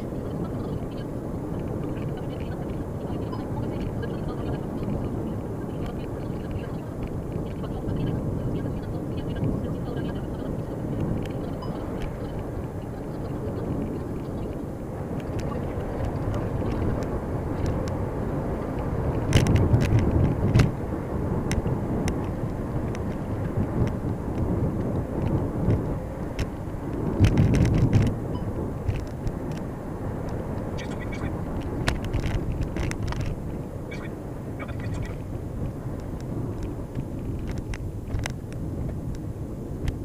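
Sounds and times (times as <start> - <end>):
road and tyre rumble: 0.0 - 40.0.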